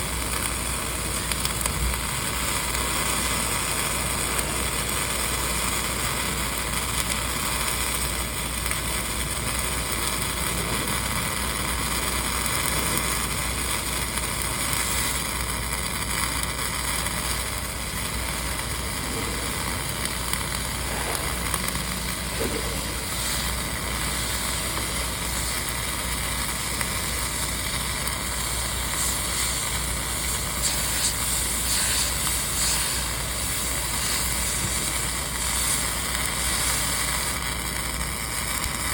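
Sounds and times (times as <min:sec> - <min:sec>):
welding arc noise: 0:00.0 - 0:38.9.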